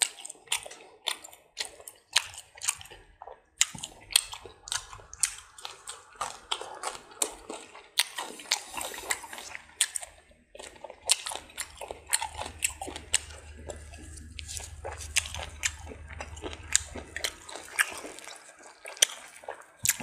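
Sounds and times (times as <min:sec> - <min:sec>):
person chewing with mouth clicks: 0:00.0 - 0:20.0.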